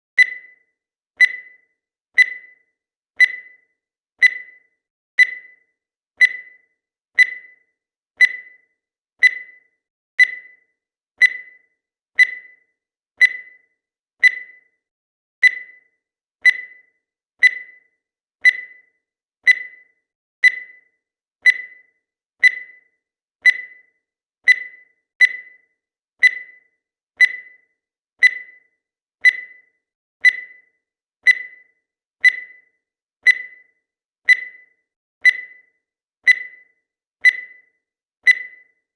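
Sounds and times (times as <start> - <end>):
timer beeping: 0.2 - 38.9.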